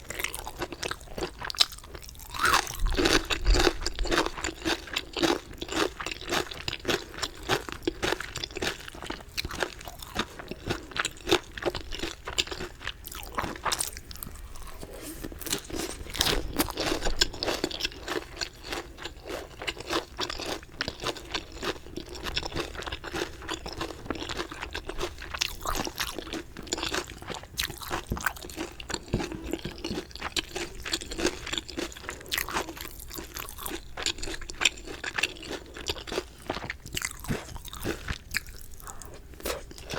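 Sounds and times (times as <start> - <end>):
person chewing crunchy chicken: 0.0 - 39.9.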